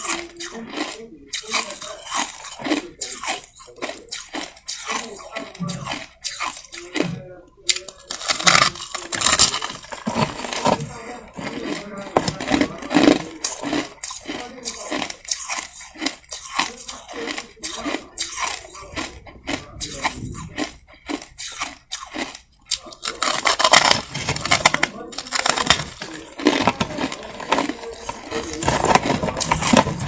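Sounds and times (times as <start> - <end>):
chewing crushed ice: 0.0 - 30.0.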